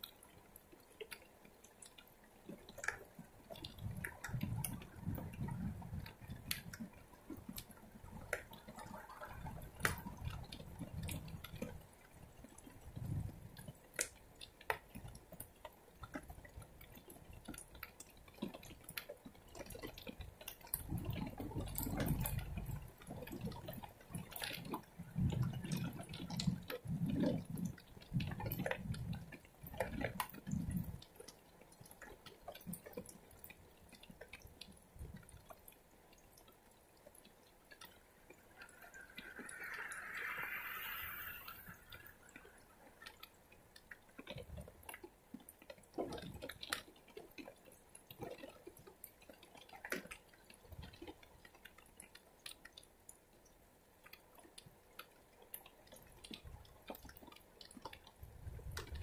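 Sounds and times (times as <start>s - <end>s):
drops dripping and splattering: 0.0s - 59.0s.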